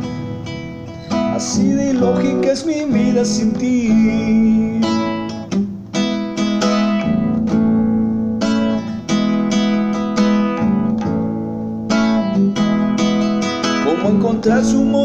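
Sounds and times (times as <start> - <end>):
nylon-string guitar strummed: 0.0 - 15.0.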